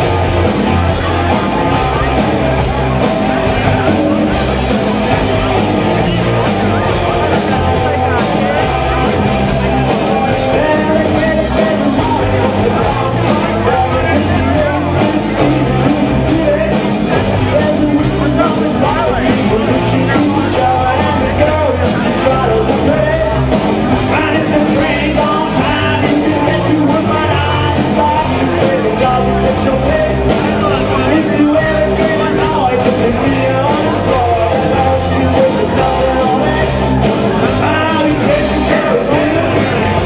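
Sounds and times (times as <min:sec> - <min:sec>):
live rock band: 0:00.0 - 0:40.0
person singing: 0:00.0 - 0:40.0
steady drum beat: 0:00.0 - 0:40.0.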